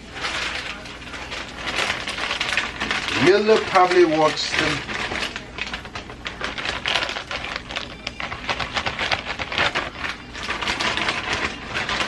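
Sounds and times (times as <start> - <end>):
crackling and clicking food handling: 0.0 - 12.0.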